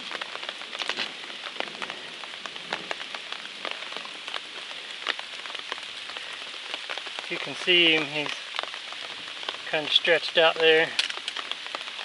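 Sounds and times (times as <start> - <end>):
rain drops ticking: 0.0 - 12.0.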